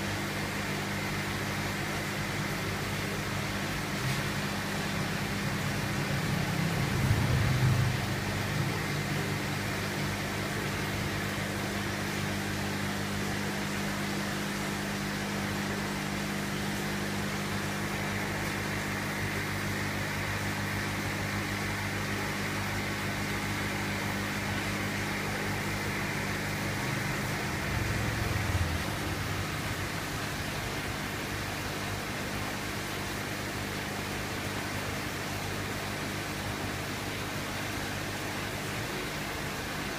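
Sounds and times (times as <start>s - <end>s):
air pump humming: 0.0s - 39.9s.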